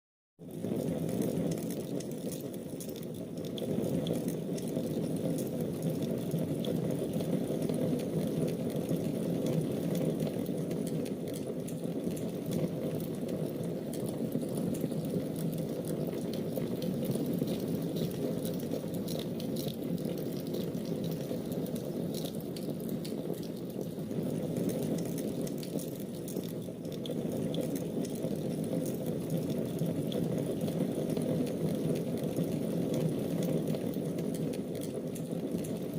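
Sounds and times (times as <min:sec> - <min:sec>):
fire crackles and pops: 0:00.4 - 0:35.9
wood fire burning: 0:00.5 - 0:35.9.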